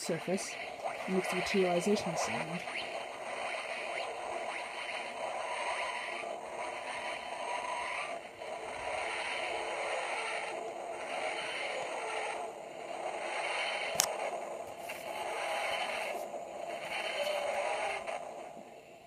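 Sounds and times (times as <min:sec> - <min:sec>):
toy warpy whooshing sound effect: 0:00.0 - 0:12.5, 0:13.2 - 0:18.2.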